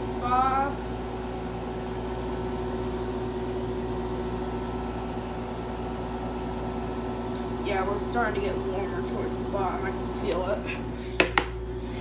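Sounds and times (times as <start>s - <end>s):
air conditioner fan rush: 0.0s - 12.0s
compressor hum: 0.0s - 12.0s.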